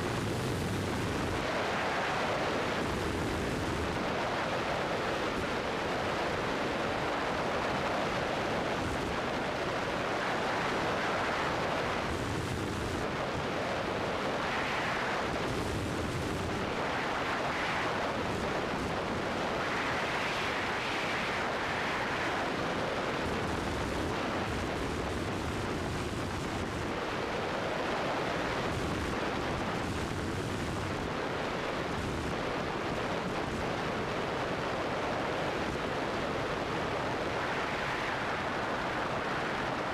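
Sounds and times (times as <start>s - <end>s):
small plane engine drone: 0.0s - 39.9s.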